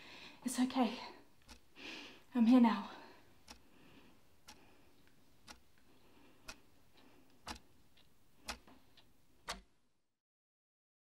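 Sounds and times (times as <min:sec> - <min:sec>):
clock ticking: 0:00.5 - 0:09.8.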